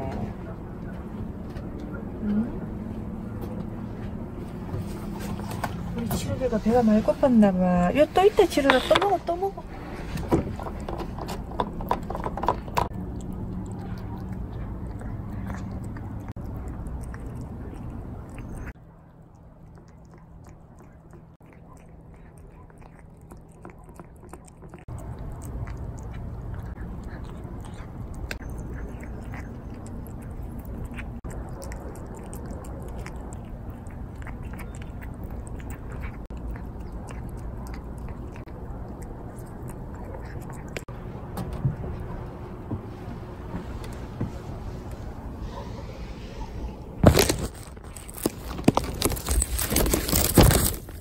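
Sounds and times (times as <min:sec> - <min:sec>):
cat chewing and lapping food: 0:00.0 - 0:51.0.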